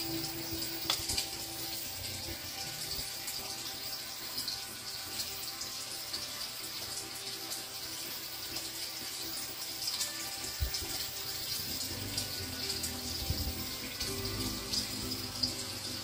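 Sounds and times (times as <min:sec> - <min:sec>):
fish tank water hissing: 0:00.0 - 0:16.0.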